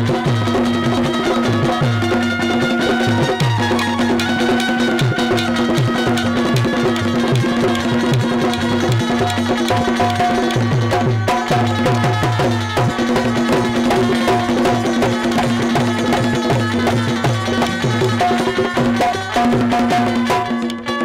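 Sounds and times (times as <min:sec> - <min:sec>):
hand drum beats: 0:00.0 - 0:21.0.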